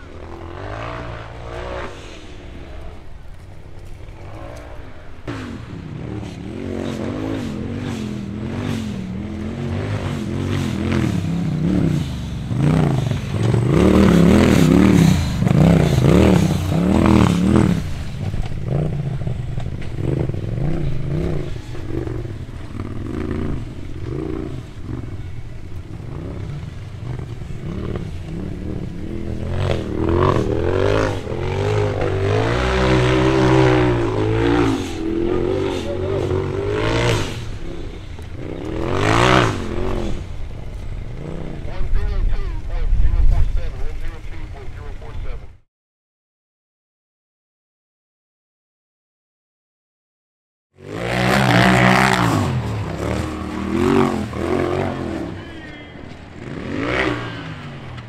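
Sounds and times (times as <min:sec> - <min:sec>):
buggy engine revving hard: 0:00.0 - 0:03.0, 0:04.2 - 0:42.6, 0:50.8 - 0:55.7, 0:56.4 - 0:58.0.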